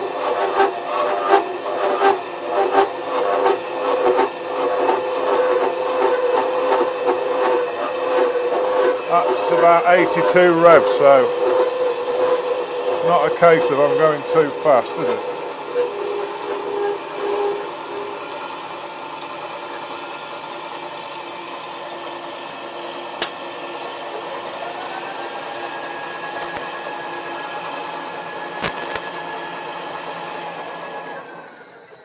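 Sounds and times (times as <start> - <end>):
milling saw whining and grinding: 0.0 - 32.0.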